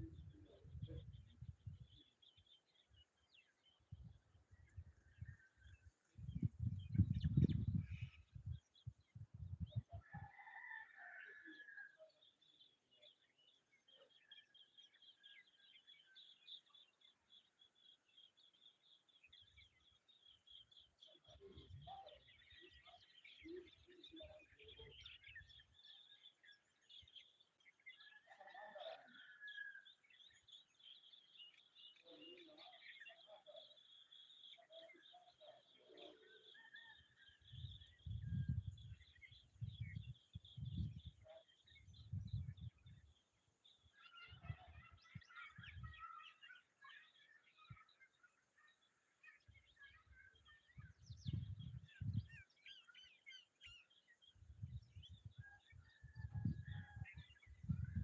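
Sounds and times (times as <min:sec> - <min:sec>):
bird chirps and calls: 0:04.6 - 0:58.0.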